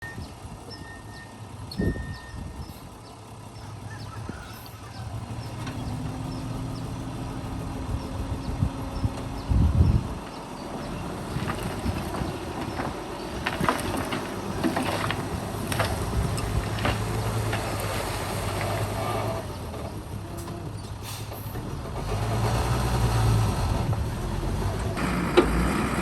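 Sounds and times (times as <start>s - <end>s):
diesel machinery engine hum: 0.0s - 26.0s.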